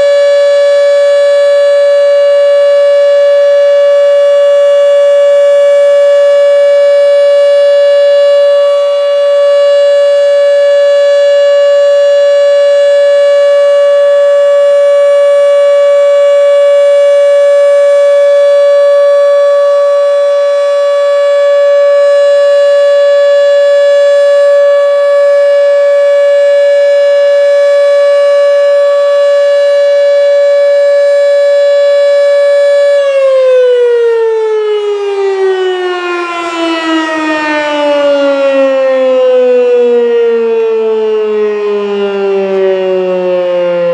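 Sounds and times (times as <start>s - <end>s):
outdoor warning siren steady tone: 0.0s - 43.9s.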